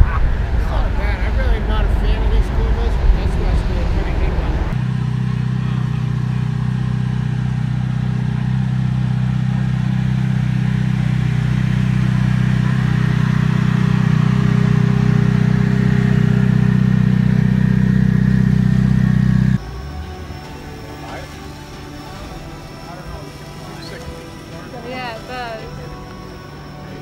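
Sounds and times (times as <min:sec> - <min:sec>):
sports car engines idling: 0:00.0 - 0:27.0.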